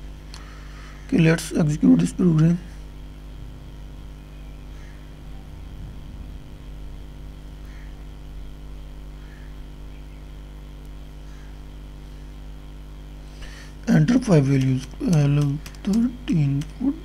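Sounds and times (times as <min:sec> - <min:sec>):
electrical hum with buzz: 0:00.0 - 0:17.0.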